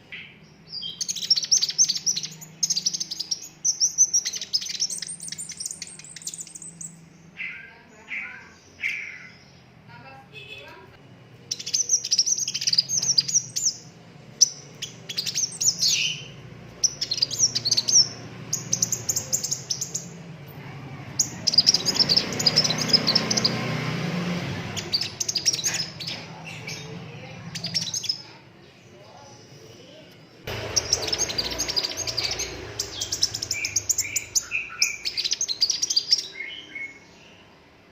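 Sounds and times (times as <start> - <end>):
bird singing chirps and trills: 0.0 - 9.8, 11.4 - 29.7, 30.5 - 37.6.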